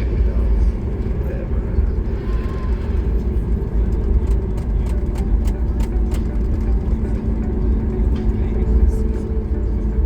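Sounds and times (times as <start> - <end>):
airplane cabin low rumble: 0.0 - 10.0.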